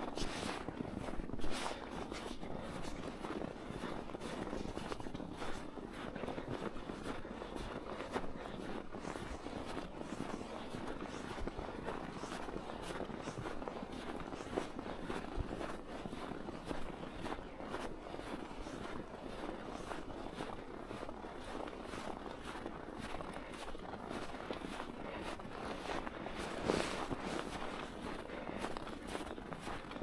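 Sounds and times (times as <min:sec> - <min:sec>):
footsteps in snow: 0:00.0 - 0:05.6, 0:06.2 - 0:30.0.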